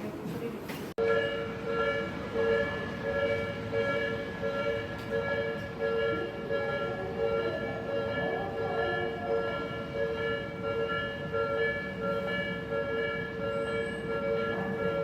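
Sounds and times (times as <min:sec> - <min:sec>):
train rumble: 0:00.0 - 0:15.0
level crossing alarm ringing: 0:01.0 - 0:15.0.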